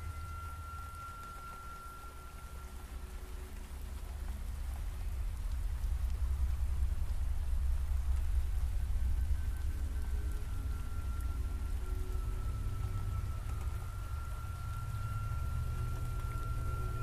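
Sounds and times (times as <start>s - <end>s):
deep low rumble: 0.0s - 17.0s
rain on pavement and foliage: 0.0s - 17.0s.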